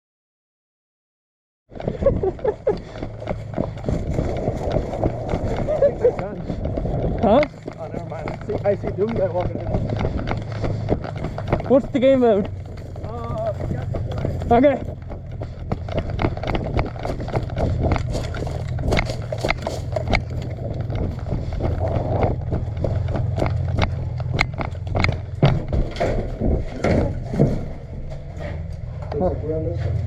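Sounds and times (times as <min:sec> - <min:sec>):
carried gear rattling: 0:01.7 - 0:30.0
wind rumble: 0:01.7 - 0:30.0
footsteps: 0:01.8 - 0:30.0.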